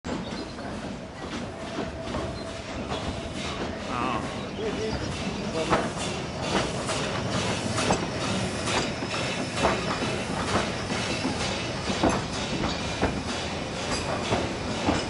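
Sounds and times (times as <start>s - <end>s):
sharp clacks of train wheels: 0.1s - 15.0s
steam train rumbling past: 0.1s - 15.0s.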